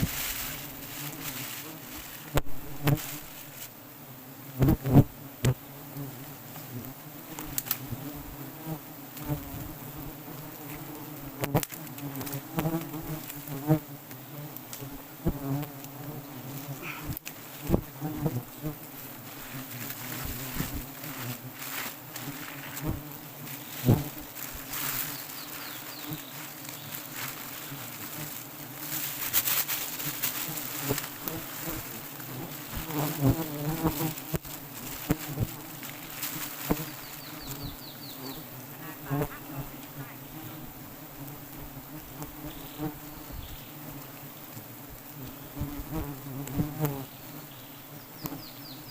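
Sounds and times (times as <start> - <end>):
swarm of bees buzzing: 0.0 - 48.9.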